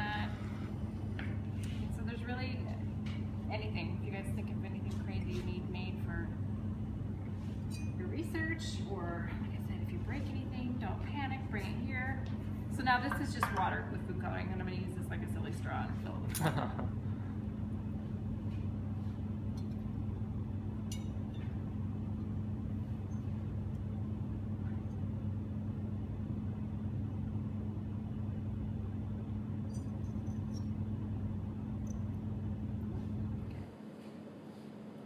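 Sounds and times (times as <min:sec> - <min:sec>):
workshop hum and rumble: 0:00.0 - 0:35.0.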